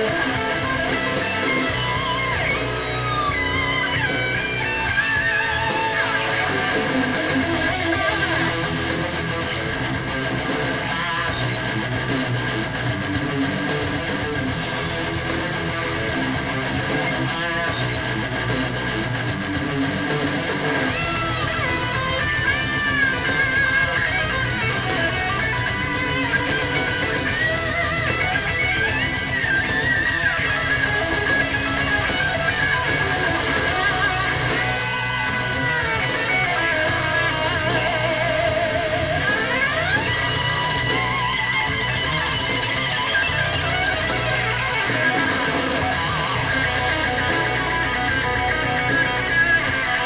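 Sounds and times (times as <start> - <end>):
rock instrumental over speakers: 0.0 - 50.0
sliding lead guitar: 0.0 - 50.0.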